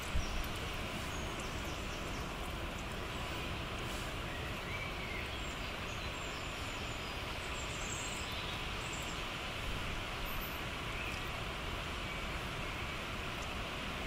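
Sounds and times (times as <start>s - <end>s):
outdoor background rush: 0.0s - 14.0s.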